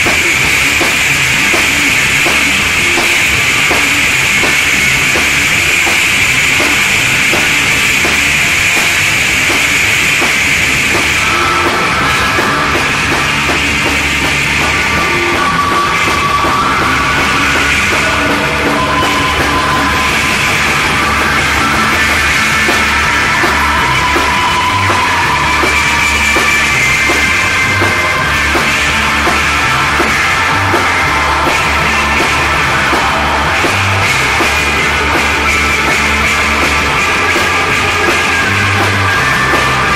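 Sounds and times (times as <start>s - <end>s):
psychedelic rock band playing: 0.0s - 39.9s.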